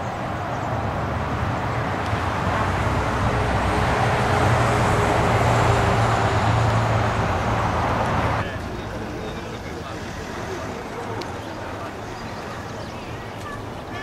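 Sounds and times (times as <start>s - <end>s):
motorway traffic: 0.0s - 14.0s.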